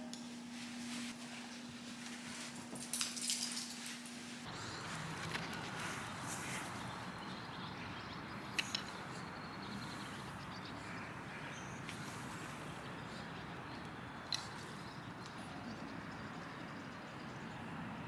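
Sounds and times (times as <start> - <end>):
steady soft hiss: 0.0 - 15.0.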